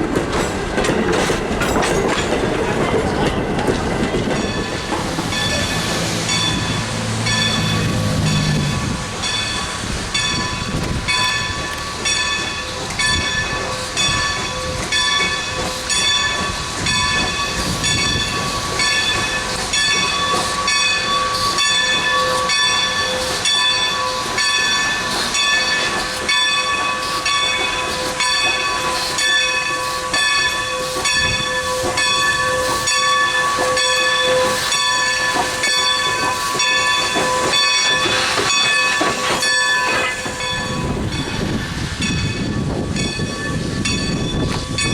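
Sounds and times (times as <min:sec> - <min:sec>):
steam locomotive beats: 0:00.0 - 0:44.9
steam hiss: 0:04.5 - 0:44.9.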